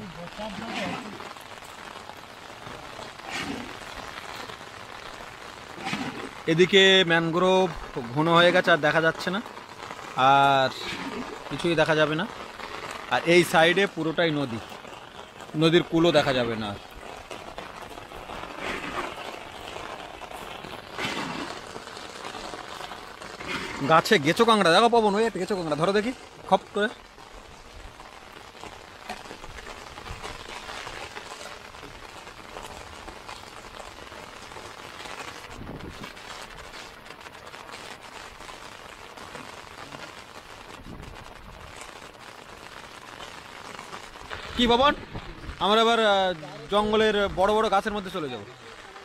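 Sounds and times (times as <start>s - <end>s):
heavy rain hissing: 0.0s - 49.0s.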